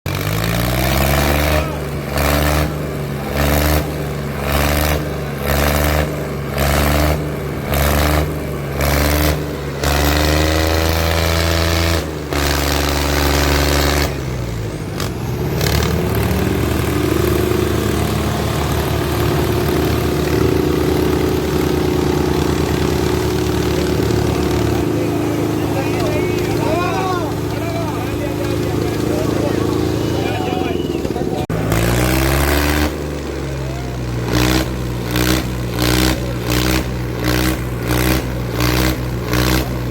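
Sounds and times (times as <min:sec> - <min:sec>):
tractor diesel engines revving: 0:00.0 - 0:39.9.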